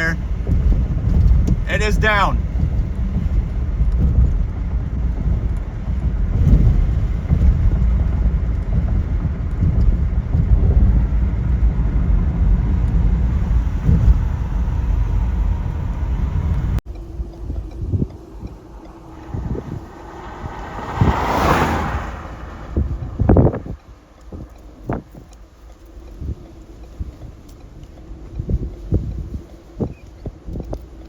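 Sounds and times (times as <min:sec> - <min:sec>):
rush of wind: 0:00.0 - 0:31.0
wind buffeting microphone: 0:00.0 - 0:31.0.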